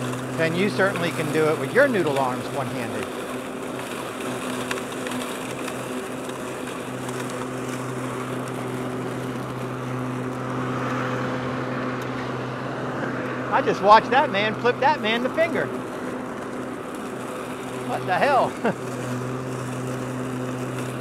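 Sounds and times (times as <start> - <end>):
lawn mower electric hum: 0.0 - 21.0
mower blades whooshing: 0.0 - 21.0.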